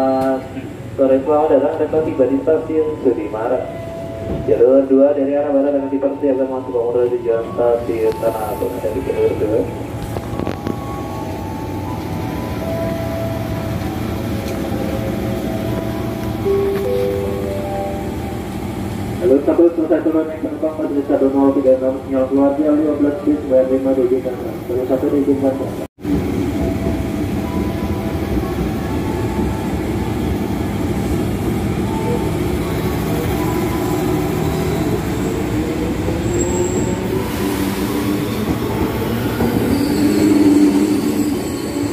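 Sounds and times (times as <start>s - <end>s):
electric train humming: 0.0s - 41.9s.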